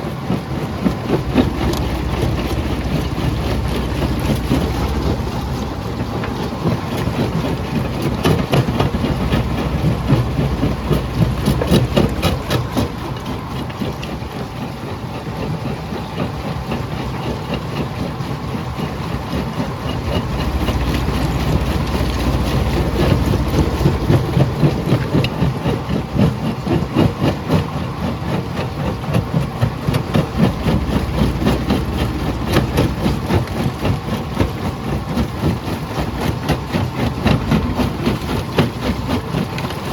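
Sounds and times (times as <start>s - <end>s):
jaw crusher engine drone: 0.0s - 39.9s.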